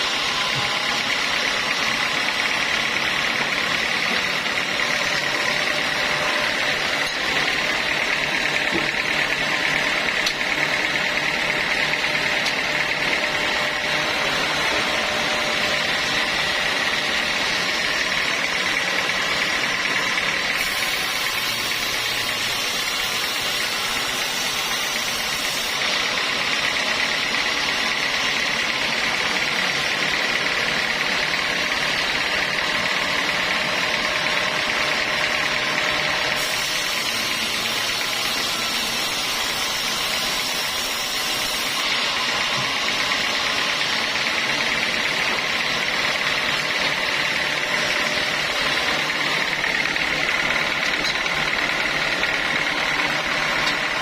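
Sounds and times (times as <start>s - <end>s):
sawmill saw whining: 0.0s - 54.0s.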